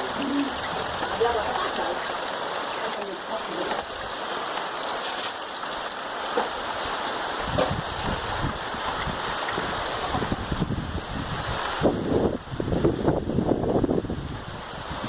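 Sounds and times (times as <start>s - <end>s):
rain pattering on surfaces: 0.0s - 15.0s.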